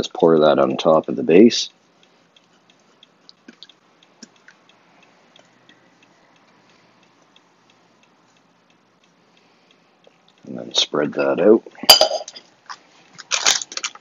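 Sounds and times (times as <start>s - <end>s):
faint steady ticking: 0.0s - 11.8s.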